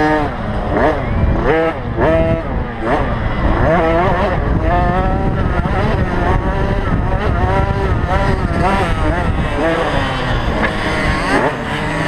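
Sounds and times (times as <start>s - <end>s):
two-stroke motocross engines revving: 0.0s - 12.0s.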